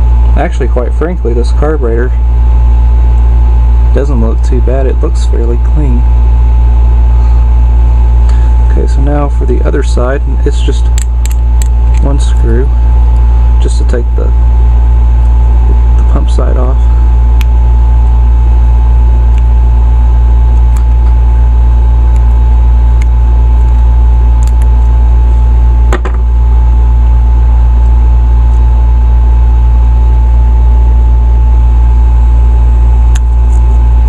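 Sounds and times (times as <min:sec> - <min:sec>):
loud low hum: 0:00.0 - 0:34.0.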